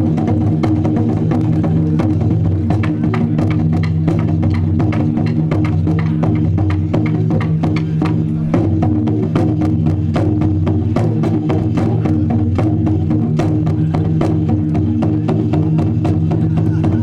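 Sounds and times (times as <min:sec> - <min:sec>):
quick percussion strikes: 0:00.0 - 0:17.0.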